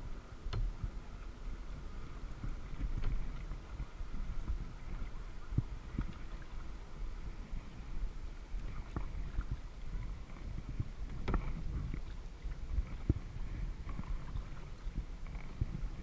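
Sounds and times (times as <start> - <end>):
steady low rumble: 0.0 - 16.0
paddle splashes and knocks: 0.4 - 7.7, 8.5 - 16.0.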